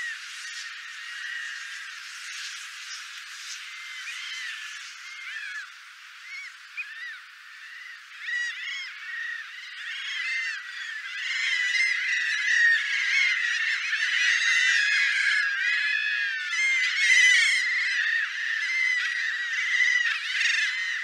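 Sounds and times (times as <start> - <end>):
gulls calling: 0.0 - 21.0.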